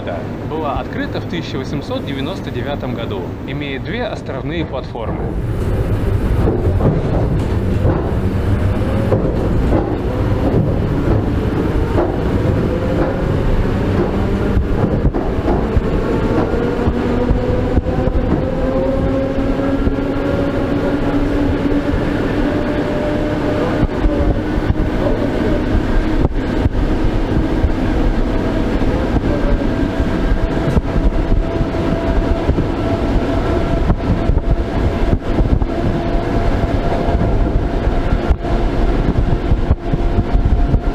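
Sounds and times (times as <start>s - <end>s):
rushing air: 0.0s - 40.9s
train rumble: 0.0s - 40.9s
train wheels clacking on rail joints: 3.8s - 40.9s.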